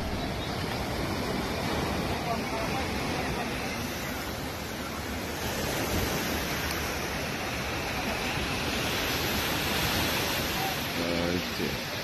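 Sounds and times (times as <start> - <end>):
waves breaking on shore: 0.0 - 12.0.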